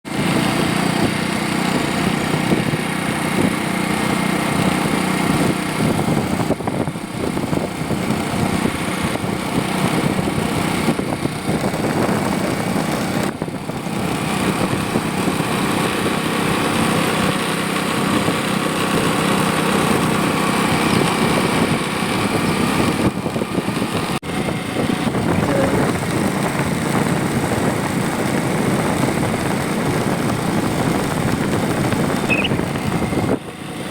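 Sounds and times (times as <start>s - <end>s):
vehicle engine and rolling noise: 0.1s - 33.9s.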